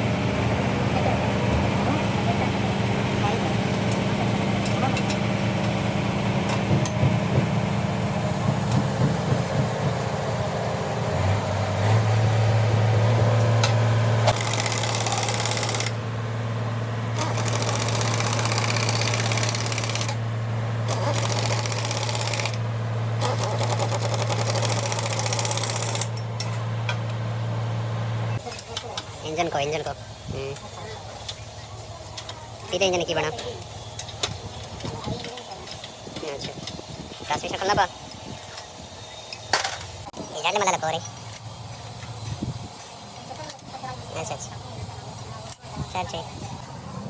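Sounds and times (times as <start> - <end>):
diesel engine clattering: 0.0 - 47.0.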